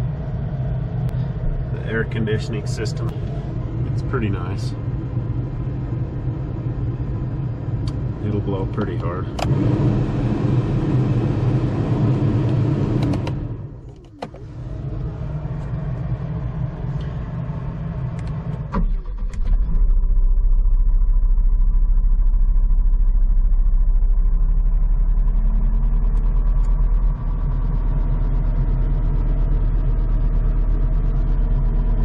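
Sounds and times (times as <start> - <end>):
deep rumble: 0.0 - 32.0
diesel engine running: 0.0 - 32.0.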